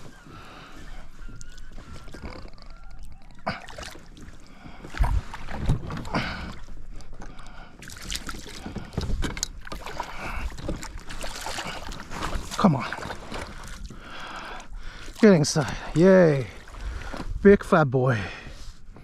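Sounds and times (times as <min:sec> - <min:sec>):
water splashing: 0:00.7 - 0:06.7, 0:07.8 - 0:17.1.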